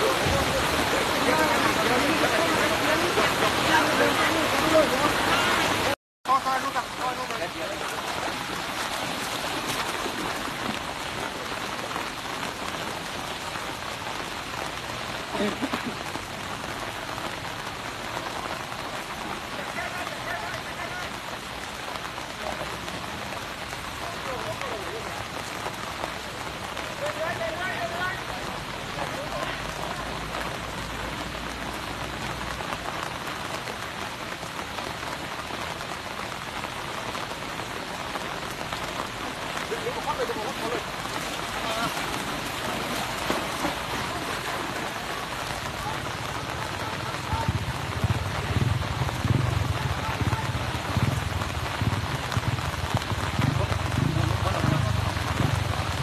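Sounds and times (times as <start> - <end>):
rain falling: 0.0 - 56.0
rushing floodwater: 0.0 - 56.0.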